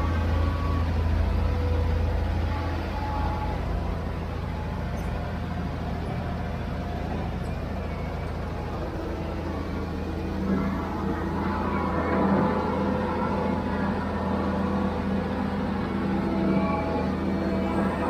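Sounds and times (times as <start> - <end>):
diesel engine droning: 0.0 - 18.0
faint whining tones: 0.0 - 18.0.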